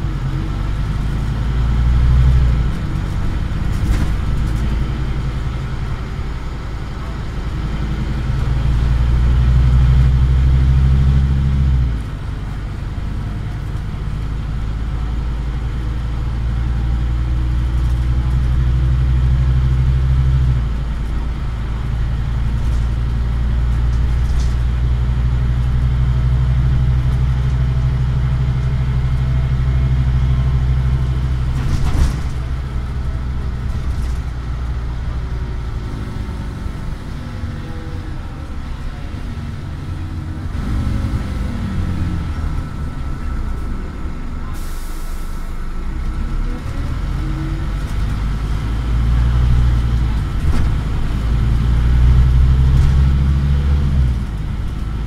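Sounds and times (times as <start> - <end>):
bus engine working hard: 0.0 - 55.0.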